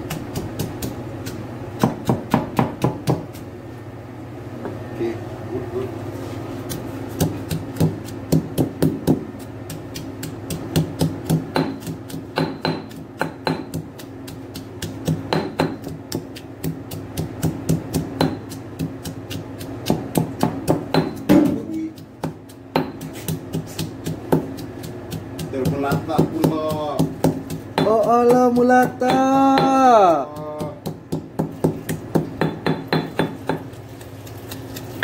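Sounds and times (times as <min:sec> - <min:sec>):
stone pestle pounding in mortar: 0:00.0 - 0:03.4, 0:06.6 - 0:35.0.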